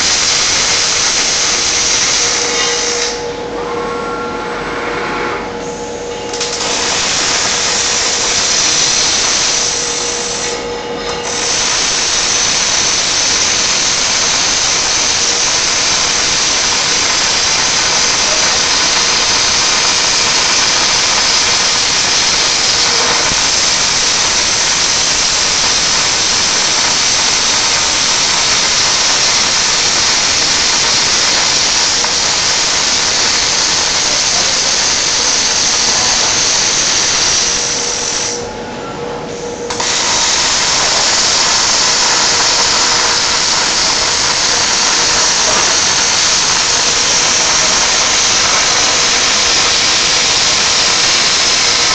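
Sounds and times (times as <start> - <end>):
arc welding hiss and crackle: 0.0 - 3.2, 6.3 - 38.4, 39.6 - 51.9.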